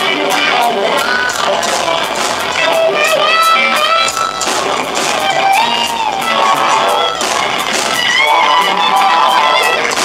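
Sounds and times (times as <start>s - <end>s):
drums with cymbals: 0.0s - 10.0s
live rock band playing loudly: 0.0s - 10.0s
sliding wailing high notes: 0.0s - 10.0s.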